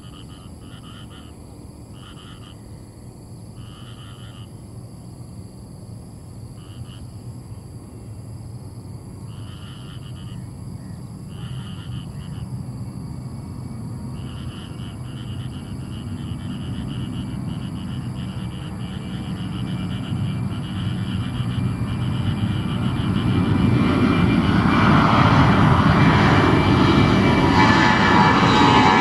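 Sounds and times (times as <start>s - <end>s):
frogs calling: 0.0s - 4.7s, 6.5s - 8.0s, 9.2s - 29.0s
jet engines rumbling: 0.0s - 29.0s.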